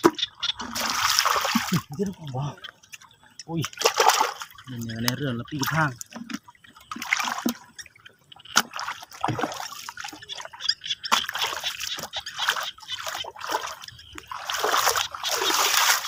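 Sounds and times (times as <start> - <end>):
feet splashing through muddy water: 0.0 - 2.3, 3.6 - 7.7, 8.6 - 16.0.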